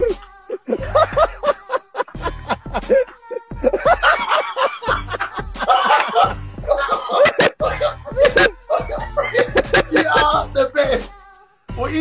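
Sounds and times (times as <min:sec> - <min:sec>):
men laughing: 0:00.0 - 0:10.7
background music with bass beat: 0:00.0 - 0:12.0.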